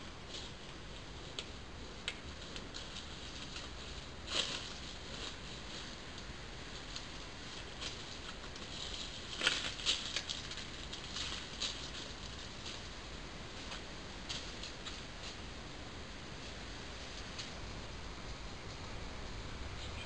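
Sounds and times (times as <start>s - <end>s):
faint hiss: 0.0s - 20.0s
soft crackles and rustles: 0.0s - 20.0s.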